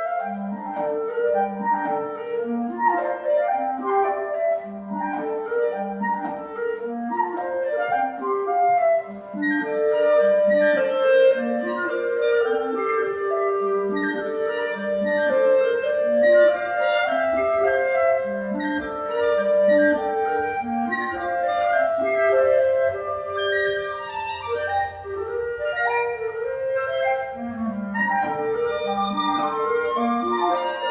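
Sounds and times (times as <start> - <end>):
woodwind trio playing chamber music: 0.0 - 30.9.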